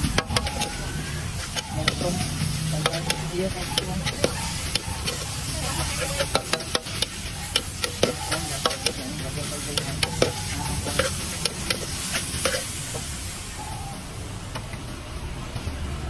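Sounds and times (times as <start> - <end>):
spatula scraping and striking wok: 0.0 - 13.5
food sizzling: 0.0 - 14.1.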